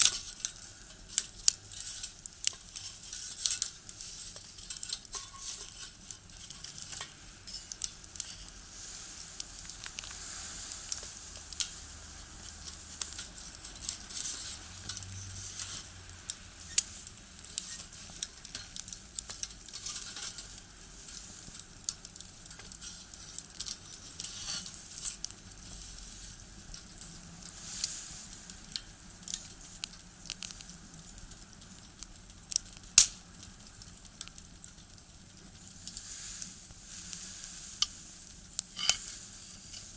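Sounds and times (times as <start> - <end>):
firewood crackling and popping: 0.0 - 39.9
soft fire hiss: 0.0 - 39.9.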